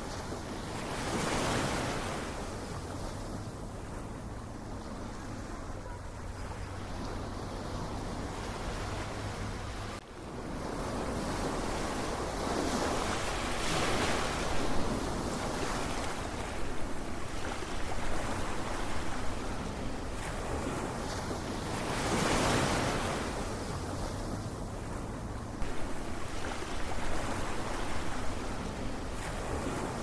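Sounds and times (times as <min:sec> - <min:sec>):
ocean surf washing: 0:00.0 - 0:30.0
waves swelling in: 0:00.0 - 0:30.0.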